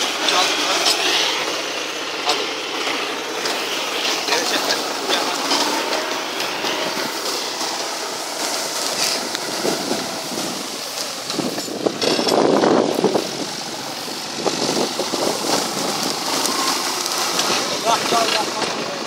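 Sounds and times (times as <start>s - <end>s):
straw and clods scraping plough: 0.0s - 19.0s
tractor running: 0.0s - 19.0s.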